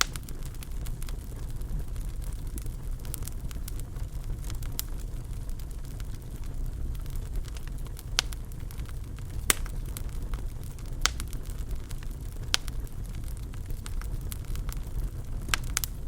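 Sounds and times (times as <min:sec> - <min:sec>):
fire crackling: 0:00.0 - 0:16.0
sharp pops of fire: 0:00.0 - 0:16.0.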